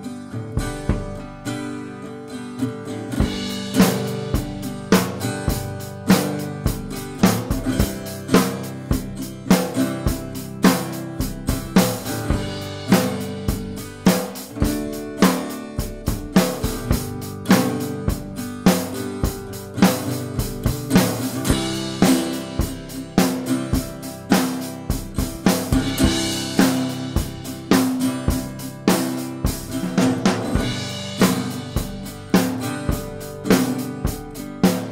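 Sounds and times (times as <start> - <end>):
drum kit playing a beat: 0.0 - 1.9, 3.0 - 34.9
strummed acoustic guitar: 0.0 - 34.9.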